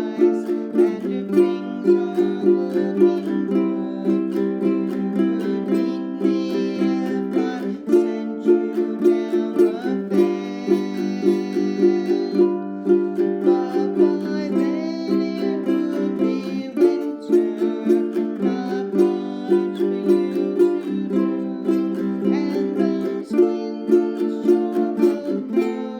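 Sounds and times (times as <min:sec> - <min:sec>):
person singing: 0:00.0 - 0:25.9
ukulele strumming: 0:00.0 - 0:25.9.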